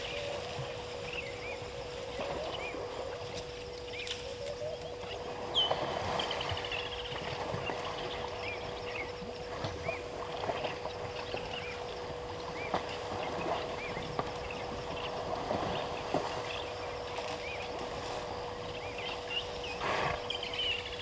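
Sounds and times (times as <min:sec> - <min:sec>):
faint steady hum: 0:00.0 - 0:21.0
water splashing and sloshing: 0:00.0 - 0:21.0.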